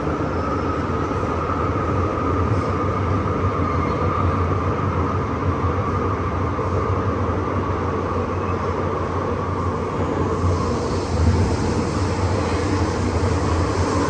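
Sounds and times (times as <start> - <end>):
electric train running on track: 0.0 - 14.0.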